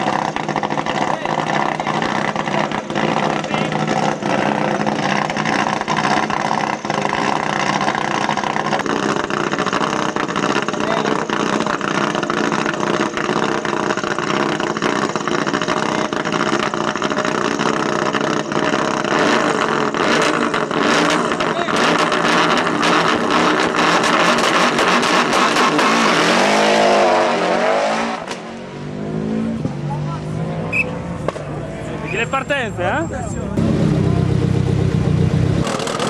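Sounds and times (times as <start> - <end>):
rally car engine running: 0.0 - 31.5, 33.4 - 36.0.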